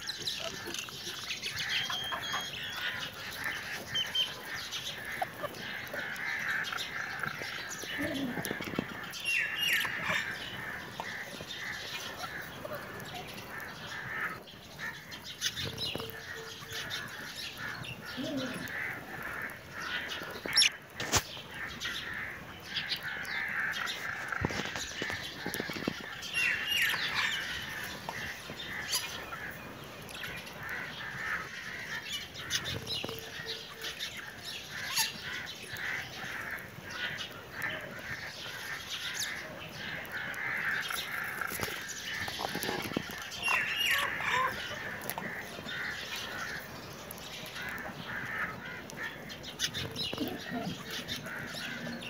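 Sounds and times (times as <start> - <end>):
budgerigars chattering and warbling: 0.0 - 52.0.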